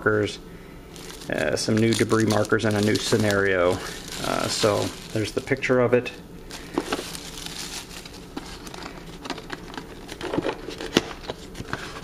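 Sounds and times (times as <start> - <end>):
plastic shrink-wrap crinkling: 0.9 - 5.8, 6.4 - 12.0.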